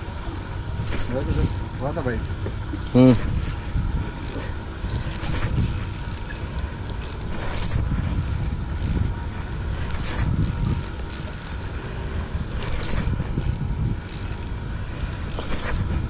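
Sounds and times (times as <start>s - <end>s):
steady low rumble: 0.0s - 16.0s
fishing reel gears whirring: 0.6s - 16.0s.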